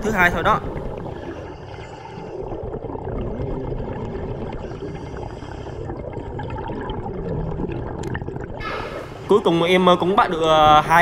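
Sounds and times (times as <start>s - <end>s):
underwater air bubbling: 0.0s - 11.0s.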